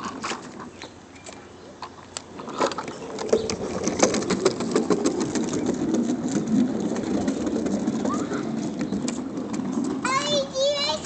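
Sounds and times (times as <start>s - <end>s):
tricycle wheels rolling on planks: 0.0s - 11.0s.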